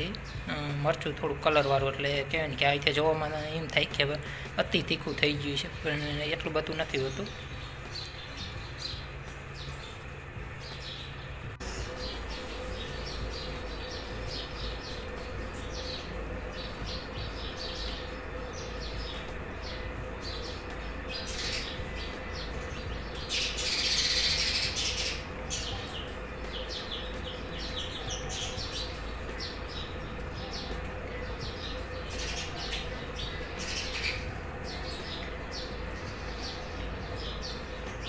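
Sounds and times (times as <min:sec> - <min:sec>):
faint steady hum: 0:00.0 - 0:38.0
small birds chirping: 0:00.0 - 0:38.0.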